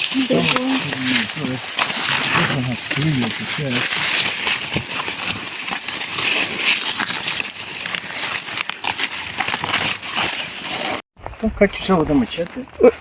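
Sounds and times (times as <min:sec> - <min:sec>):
dry corn leaves rustling: 0:00.0 - 0:11.0.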